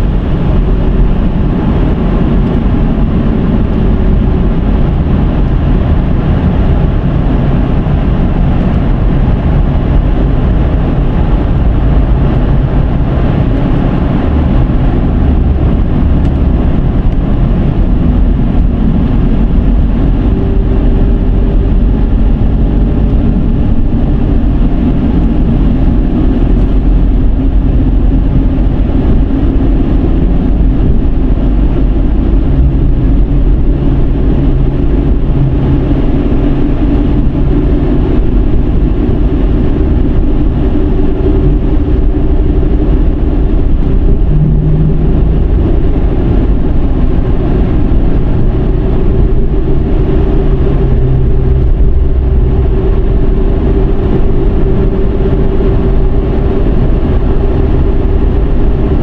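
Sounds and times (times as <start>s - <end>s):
low car engine hum: 0.0s - 59.0s
tyre and road noise: 0.0s - 59.0s.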